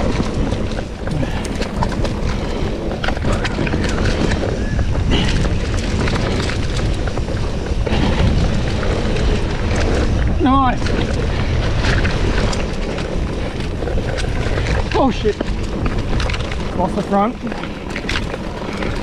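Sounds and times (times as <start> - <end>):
bike rattling over stones: 0.0 - 19.0
tyre and wind rush: 0.0 - 19.0.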